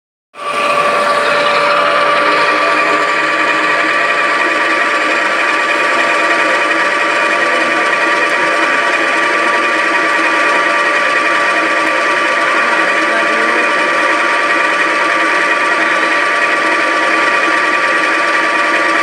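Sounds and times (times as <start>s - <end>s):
lathe whining: 0.4s - 19.0s.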